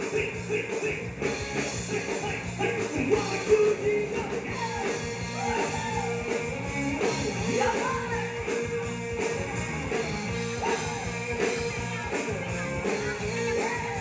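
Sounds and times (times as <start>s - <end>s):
drum kit beat: 0.0s - 14.0s
electric guitars: 0.0s - 14.0s
person singing: 0.0s - 14.0s.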